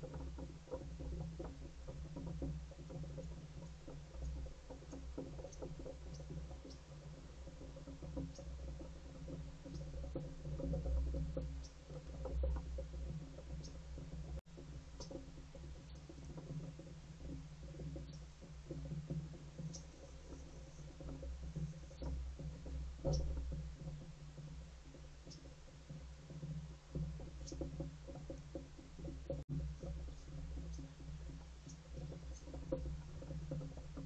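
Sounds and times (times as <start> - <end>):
pigeons tapping on wooden railing: 0.0 - 34.0.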